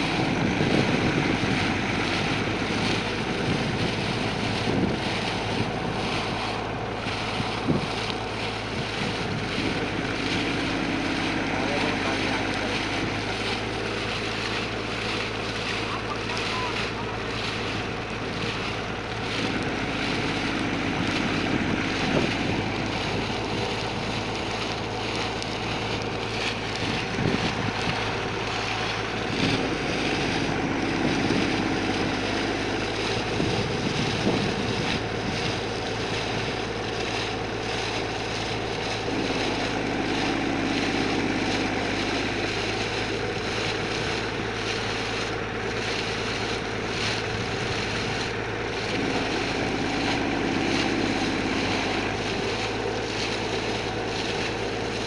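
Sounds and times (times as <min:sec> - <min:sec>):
continuous hissing rush: 0:00.0 - 0:55.0
low drone: 0:00.0 - 0:55.0
motor humming: 0:00.0 - 0:55.0.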